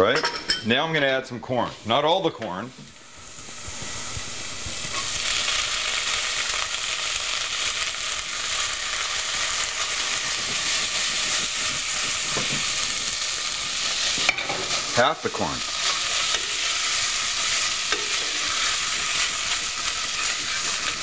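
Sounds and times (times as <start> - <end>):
corn sizzling in hot fat: 1.2 - 21.0.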